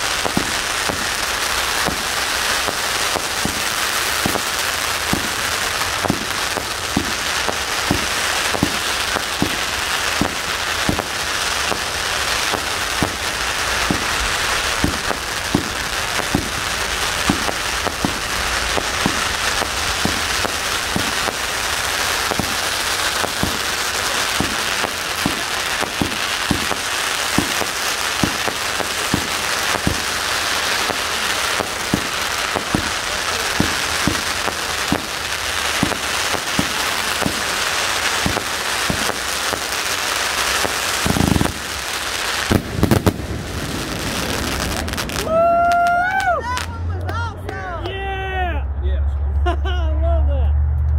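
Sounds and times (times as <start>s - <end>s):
fireworks crackling and banging: 0.0s - 49.7s.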